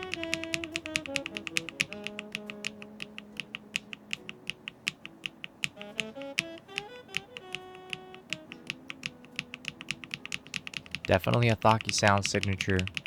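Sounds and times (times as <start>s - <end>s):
background music: 0.0s - 12.9s
mechanical keyboard typing: 0.0s - 13.0s.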